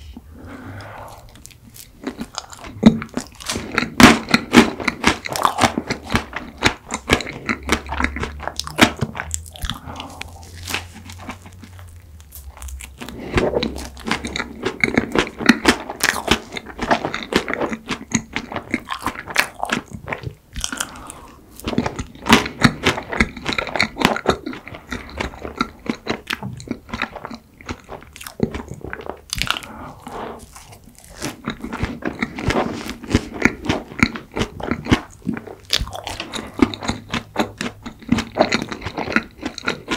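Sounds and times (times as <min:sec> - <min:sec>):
wet mouth sounds: 0:00.4 - 0:39.9
chewing and crunching: 0:00.7 - 0:39.9.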